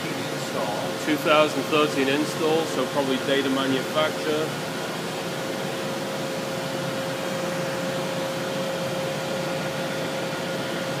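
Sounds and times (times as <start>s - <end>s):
constant machine whine: 0.0s - 11.0s
machine whirring hum: 0.0s - 11.0s.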